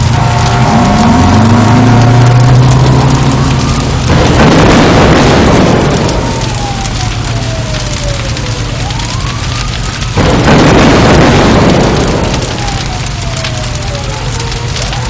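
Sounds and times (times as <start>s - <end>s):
explosion rumbling roar: 0.0s - 15.0s
siren-like wail: 0.0s - 15.0s.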